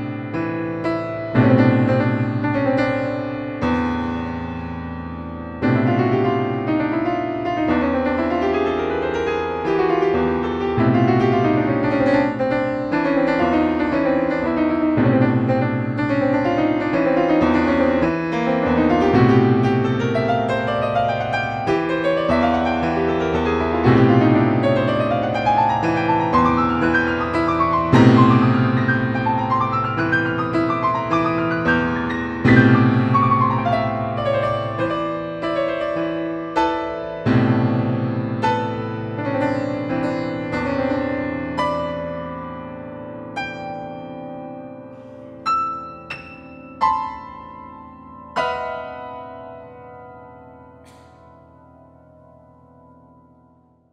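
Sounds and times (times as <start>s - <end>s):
solo grand piano: 0.0s - 53.9s.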